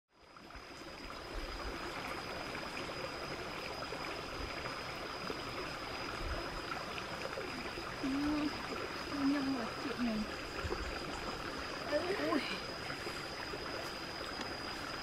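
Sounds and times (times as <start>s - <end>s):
stream running over stones: 0.1s - 15.0s.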